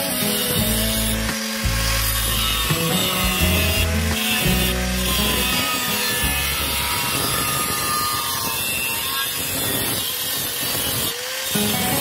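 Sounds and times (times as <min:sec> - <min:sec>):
angle grinder cutting steel: 0:00.0 - 0:12.0.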